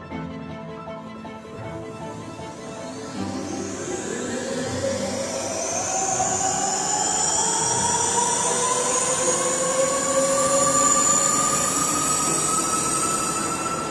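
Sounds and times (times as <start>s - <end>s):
steady rushing noise: 1.6s - 13.9s
electric motor whine: 1.7s - 13.9s.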